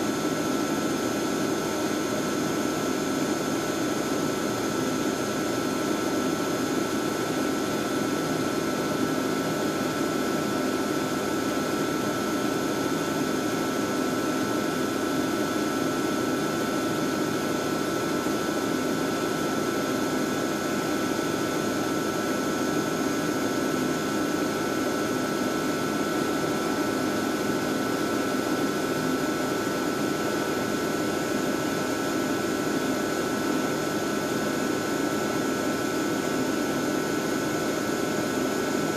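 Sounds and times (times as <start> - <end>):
machine whirring with steady tones: 0.0 - 38.9.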